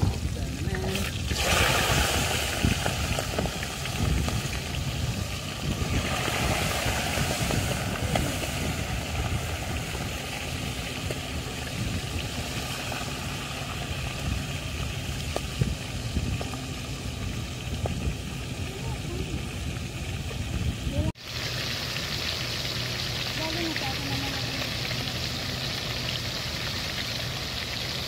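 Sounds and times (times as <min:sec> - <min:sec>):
gas stove burner rumble and hiss: 0:00.0 - 0:28.0.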